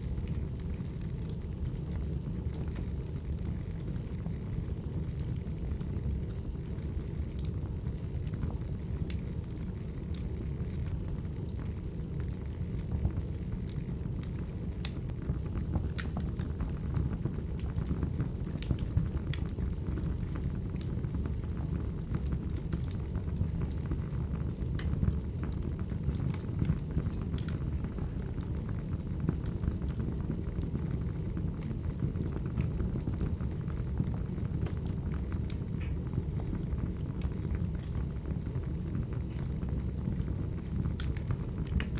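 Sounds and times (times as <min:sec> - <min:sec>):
low rumble of flames: 0:00.0 - 0:41.9
logs popping and crackling: 0:08.2 - 0:41.9.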